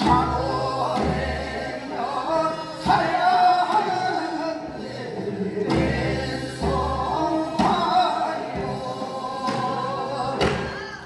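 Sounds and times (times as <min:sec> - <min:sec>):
musical accompaniment: 0:00.0 - 0:11.0
voices singing folk song: 0:00.0 - 0:11.0.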